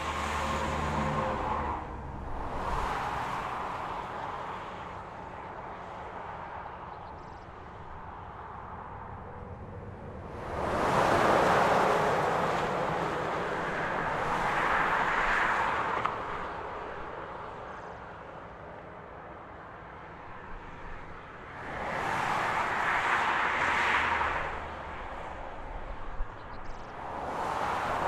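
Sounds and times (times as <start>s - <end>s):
traffic passing: 0.0s - 28.0s.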